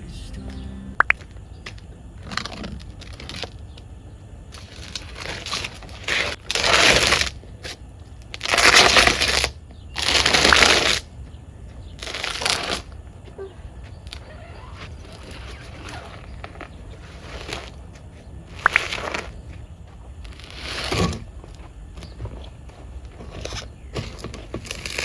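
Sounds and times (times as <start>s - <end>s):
rough crunching and scraping: 1.1s - 25.0s.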